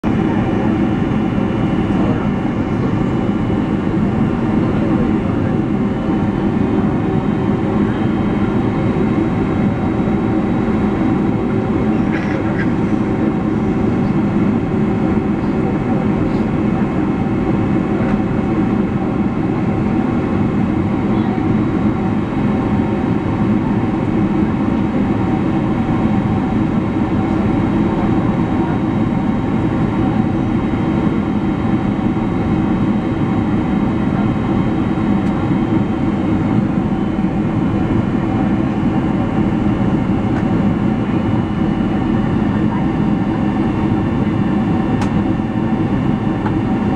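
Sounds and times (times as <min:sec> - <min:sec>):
aircraft engines and airflow rush: 0:00.0 - 0:46.9
faint steady engine tones: 0:00.1 - 0:46.9.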